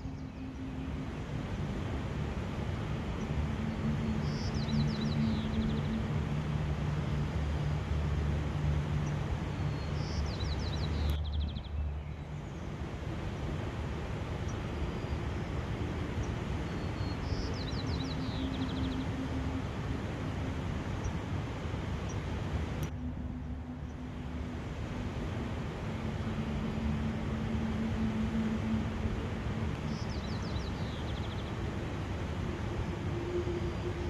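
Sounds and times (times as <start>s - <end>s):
low hum: 0.0s - 34.0s
songbird singing: 0.0s - 34.0s
steady rushing noise: 0.0s - 34.0s.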